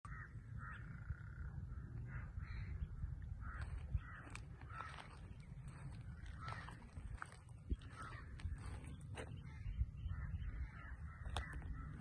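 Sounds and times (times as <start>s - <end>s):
birds harsh calls: 0.0s - 12.0s
low rumble: 0.1s - 12.0s.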